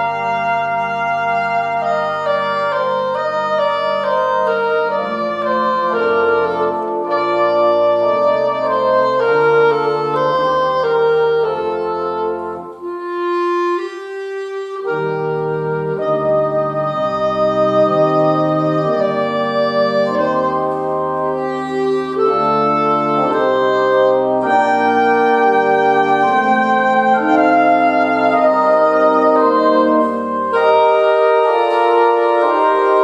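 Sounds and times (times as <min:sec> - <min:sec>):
clarinet melody: 0:00.0 - 0:33.0.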